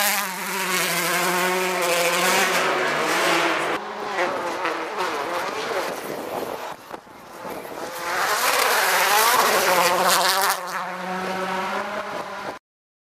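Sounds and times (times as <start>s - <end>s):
rally car engines revving: 0.0s - 12.6s.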